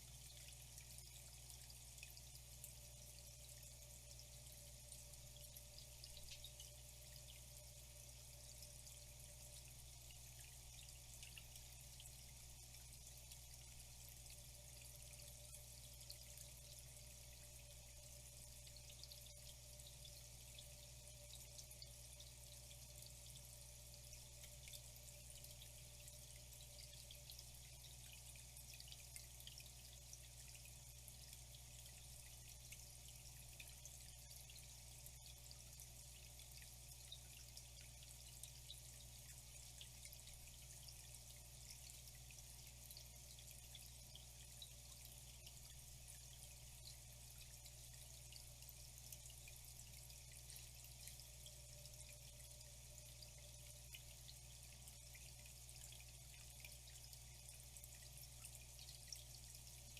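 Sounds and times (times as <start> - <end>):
low steady hum: 0.0 - 59.9
water drips and splashes: 0.0 - 59.9
water trickling: 0.0 - 59.9.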